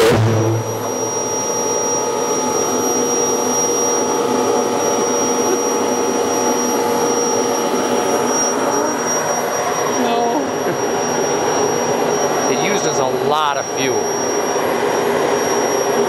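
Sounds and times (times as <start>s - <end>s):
engine low rumble: 0.0s - 14.1s
electric air blower whirring: 0.0s - 16.0s
thin whining tones: 0.0s - 16.0s.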